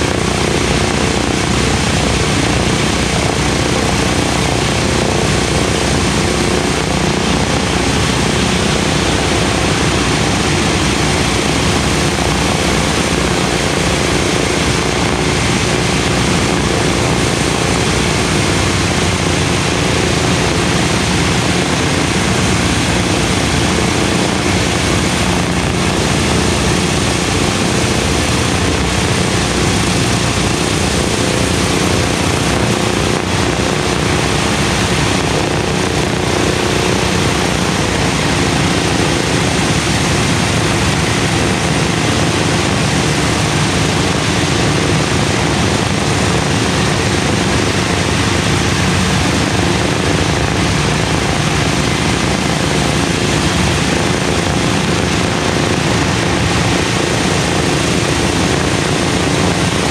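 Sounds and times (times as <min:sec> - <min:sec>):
propeller engines idling: 0:00.0 - 0:59.9.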